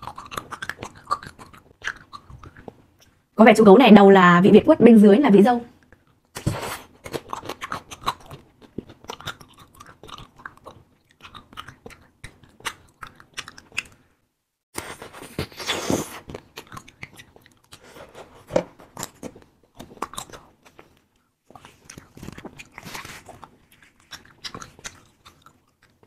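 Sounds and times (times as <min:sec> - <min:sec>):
chewing wax candy: 0:00.0 - 0:03.3, 0:05.8 - 0:14.1, 0:14.8 - 0:26.0.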